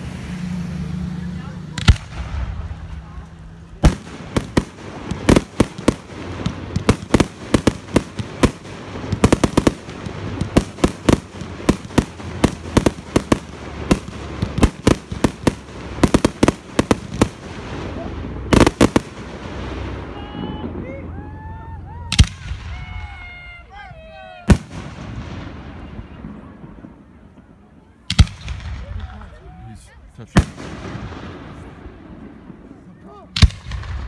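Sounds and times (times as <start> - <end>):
fireworks banging: 0.0 - 23.6, 24.4 - 29.4, 30.2 - 34.0.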